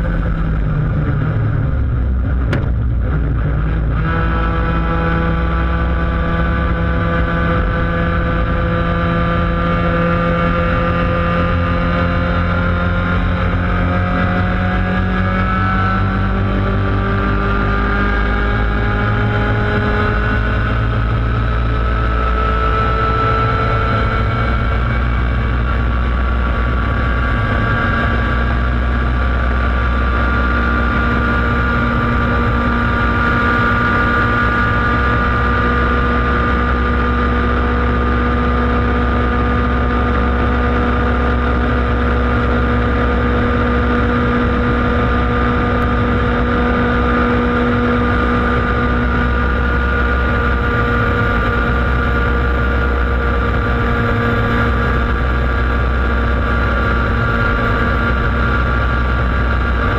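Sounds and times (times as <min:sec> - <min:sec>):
kart engine at high revs: 0:00.0 - 0:59.9.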